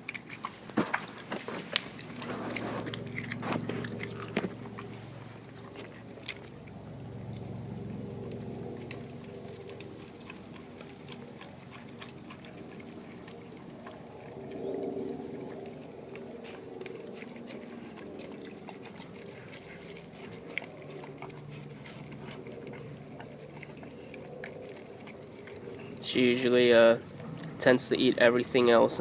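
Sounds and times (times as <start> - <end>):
dog chewing and slurping food: 0.0 - 29.0.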